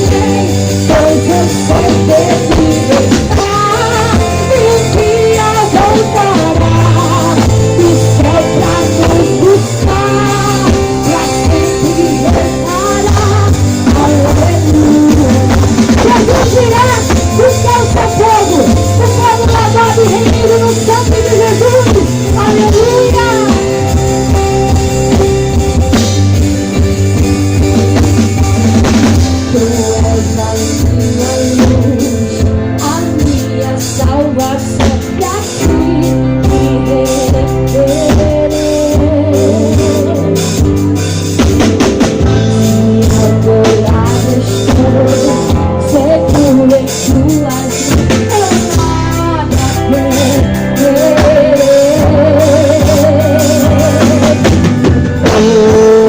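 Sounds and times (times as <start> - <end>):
person singing: 0.0 - 56.0
worship band playing: 0.0 - 56.0.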